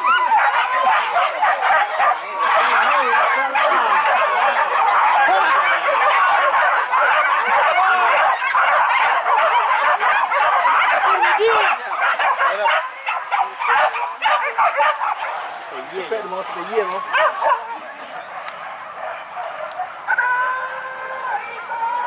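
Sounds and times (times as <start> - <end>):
dogs barking and yelping: 0.0 - 22.0.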